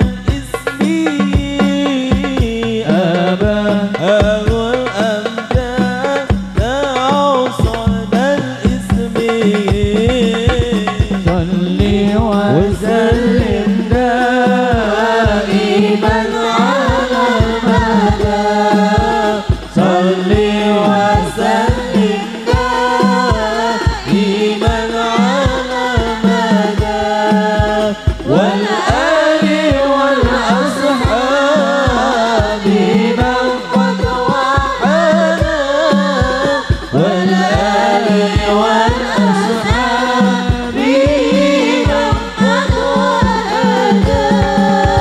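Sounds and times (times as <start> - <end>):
hand drum beats: 0.0 - 45.0
voices singing devotional melody: 0.0 - 45.0.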